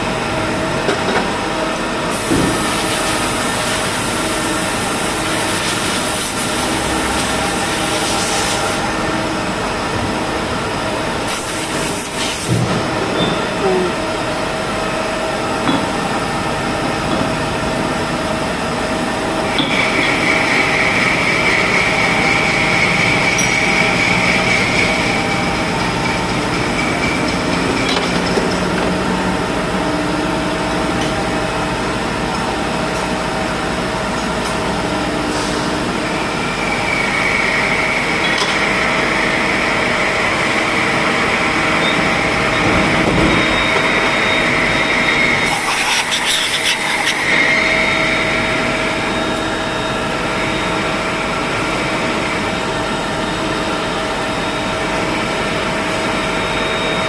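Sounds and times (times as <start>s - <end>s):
high machine whine: 0.0s - 57.0s
milling machine humming: 0.0s - 57.0s.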